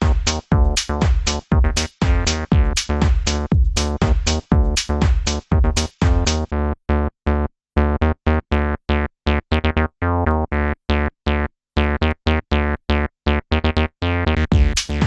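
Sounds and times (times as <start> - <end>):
staccato synthesizer bassline: 0.0 - 15.0.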